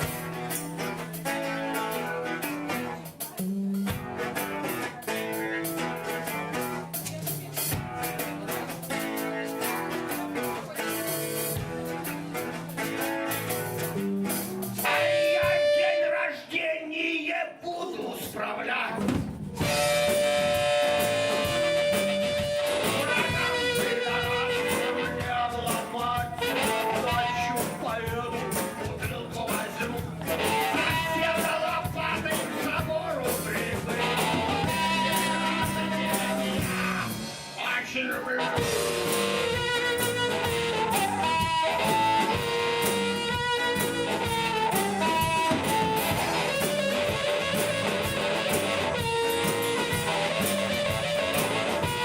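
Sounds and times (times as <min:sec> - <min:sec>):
drum kit: 0:00.0 - 0:16.0, 0:18.2 - 0:52.0
live rock blues band: 0:00.0 - 0:16.1, 0:18.2 - 0:52.0
guitar playing: 0:00.0 - 0:16.4, 0:19.4 - 0:52.0.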